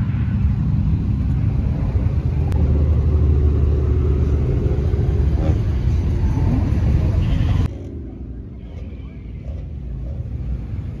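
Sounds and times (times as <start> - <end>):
car engine idling: 0.4 - 11.0.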